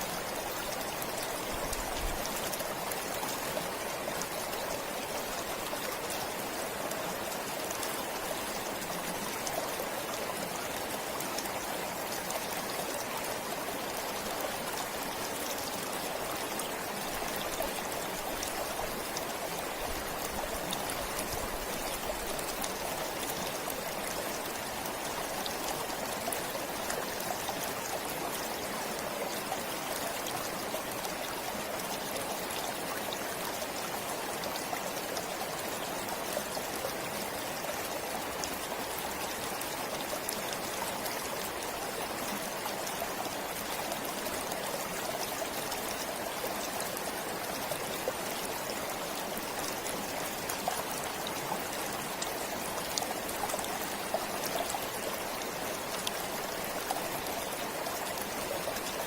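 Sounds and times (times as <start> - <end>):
stream splashing over stones: 0.0 - 59.0.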